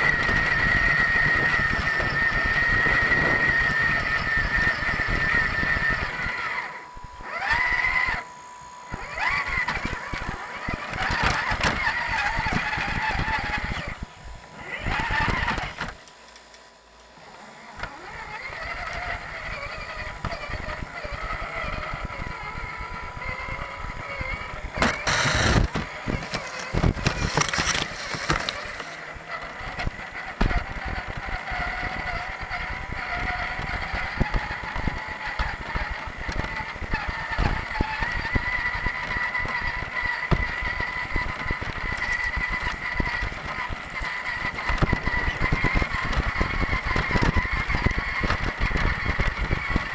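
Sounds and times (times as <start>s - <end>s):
electric motor and gear whine: 0.0s - 49.9s.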